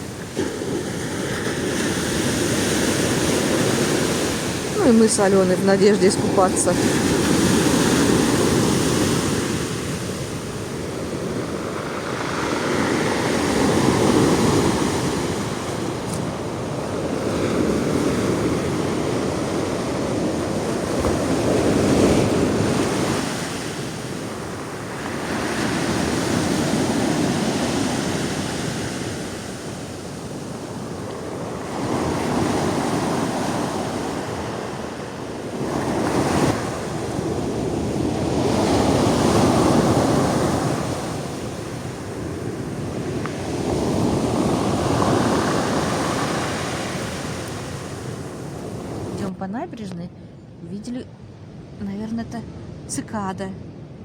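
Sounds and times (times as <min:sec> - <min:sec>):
sea waves breaking on shore: 0:00.0 - 0:49.3.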